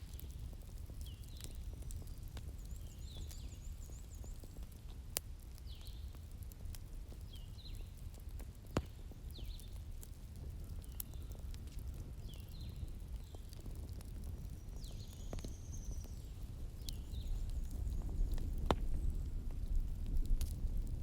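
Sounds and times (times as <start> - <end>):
bonfire burning and crackling: 0.0 - 21.0
sharp fire pops: 0.0 - 21.0.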